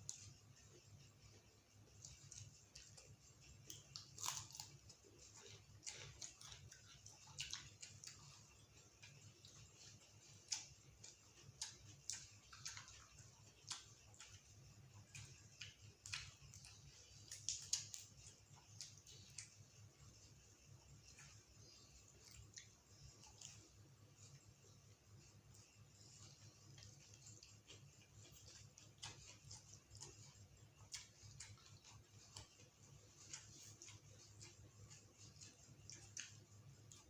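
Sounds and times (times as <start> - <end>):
faint low hum: 0.0 - 37.0
person chewing food: 0.0 - 37.0.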